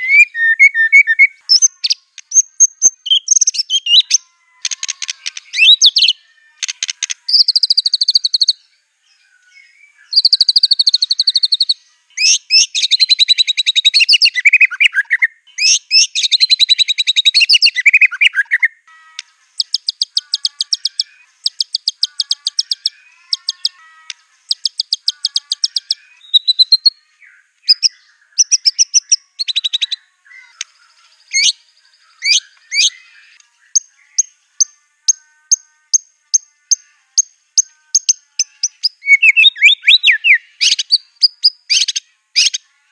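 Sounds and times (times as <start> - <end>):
bird singing trills and whistles: 0.0 - 42.7.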